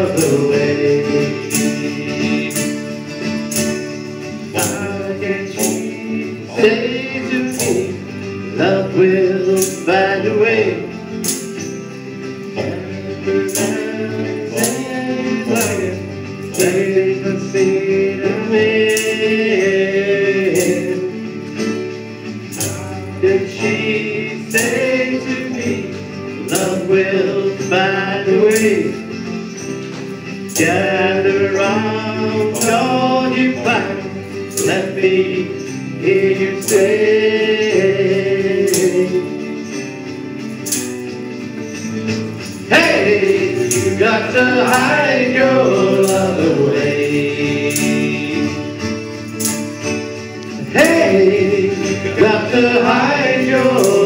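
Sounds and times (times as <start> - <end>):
male vocals: 0.0 - 3.1, 4.4 - 11.4, 12.4 - 21.5, 22.5 - 29.4, 30.4 - 39.7, 42.6 - 49.2, 50.6 - 54.0
electric guitar: 0.0 - 54.0
tambourine beat: 0.0 - 54.0.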